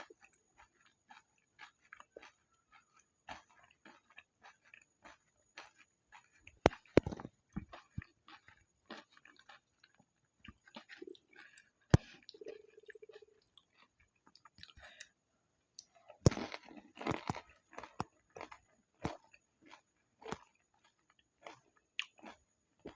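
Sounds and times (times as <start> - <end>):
wet chewing and mouth clicks: 0.0 - 15.2, 15.8 - 22.9.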